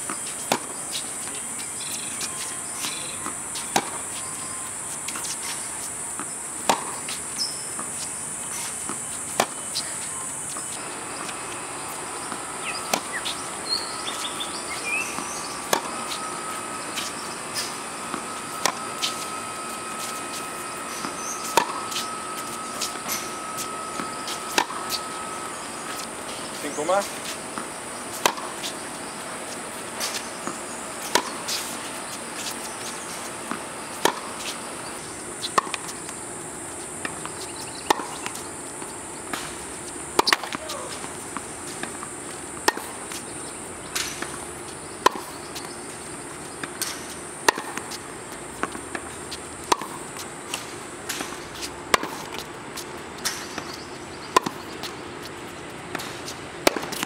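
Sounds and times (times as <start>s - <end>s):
steady high hiss: 0.0s - 57.0s
tennis ball bouncing: 0.0s - 57.0s
tennis ball struck by racket: 2.2s - 4.3s, 5.0s - 7.9s, 8.5s - 26.1s, 26.7s - 28.8s, 30.0s - 34.6s, 35.4s - 36.2s, 37.0s - 43.2s, 43.9s - 44.4s, 45.0s - 45.7s, 46.6s - 55.0s, 55.9s - 57.0s.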